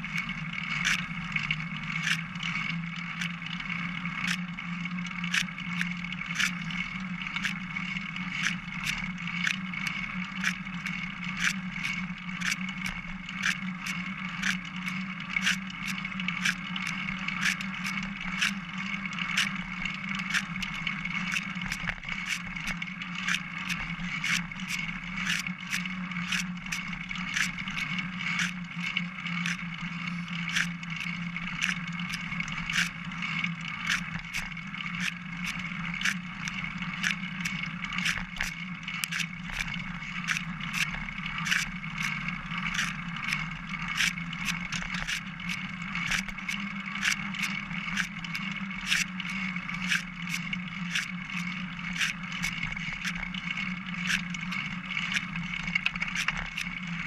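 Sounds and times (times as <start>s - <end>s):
bicycle rolling hum: 0.0s - 57.0s
bicycle sharp ticks: 0.0s - 57.0s.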